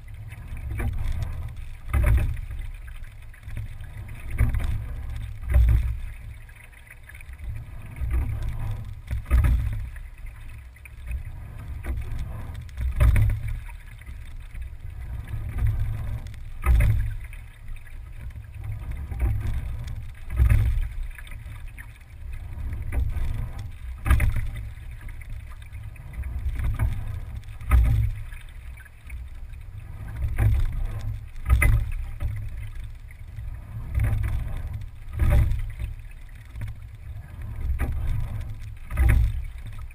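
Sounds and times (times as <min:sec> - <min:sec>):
low rumble of water along hull: 0:00.0 - 0:39.9
water surge from oar stroke: 0:00.0 - 0:39.9.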